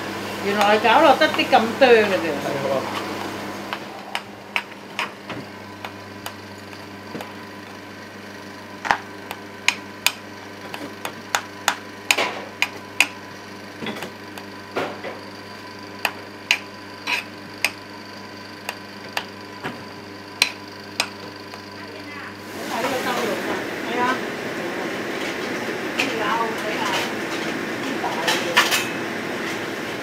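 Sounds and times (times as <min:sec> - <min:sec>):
grinder motor humming: 0:00.0 - 0:30.0.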